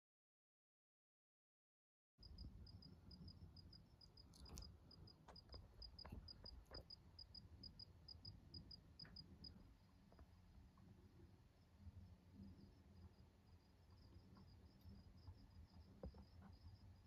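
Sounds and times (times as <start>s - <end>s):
faint insect chirping: 2.2s - 17.0s.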